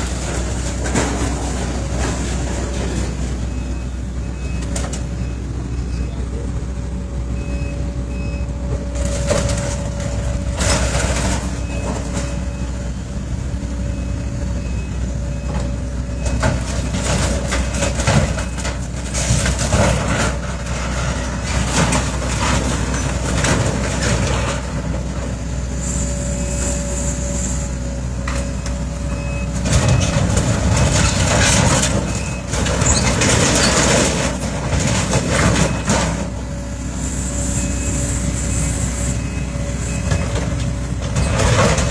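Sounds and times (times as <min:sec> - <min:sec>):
demolition machine engine whining: 0:00.0 - 0:41.9.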